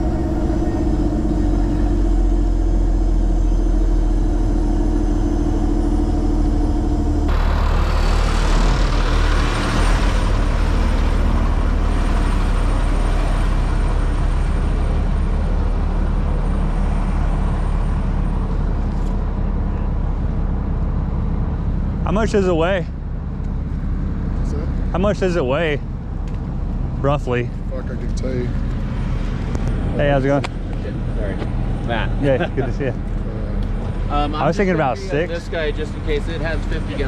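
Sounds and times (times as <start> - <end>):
large vehicle engine humming: 0.0 - 37.0.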